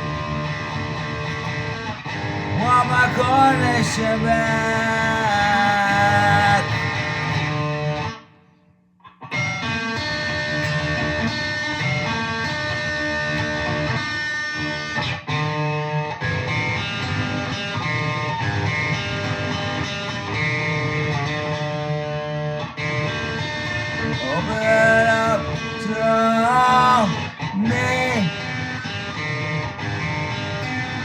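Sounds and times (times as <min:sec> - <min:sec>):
fuzz electric guitar solo: 0:00.0 - 0:08.3, 0:09.3 - 0:31.0.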